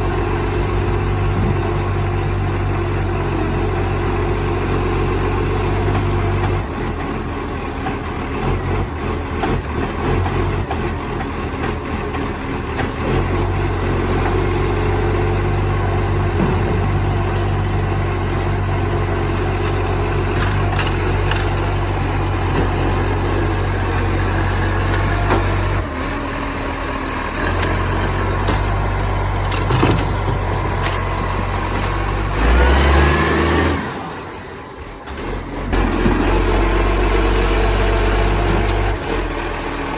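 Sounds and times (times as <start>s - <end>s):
loud diesel truck engine: 0.0s - 39.9s.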